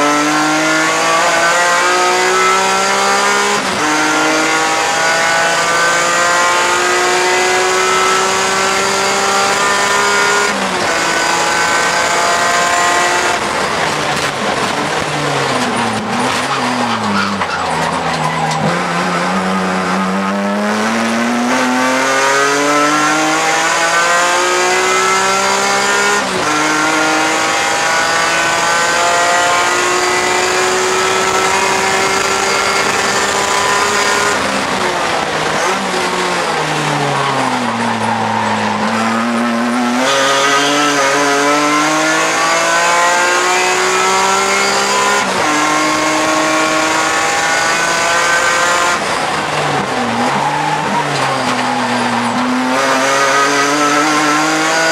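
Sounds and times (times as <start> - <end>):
race car engine with upshifts: 0.0 - 54.9.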